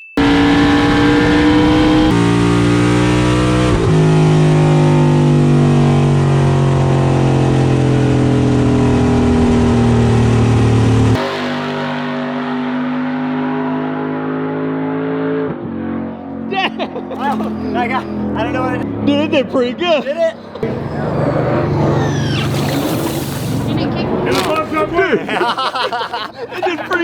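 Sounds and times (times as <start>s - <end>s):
race car engine running hard: 0.2s - 25.3s.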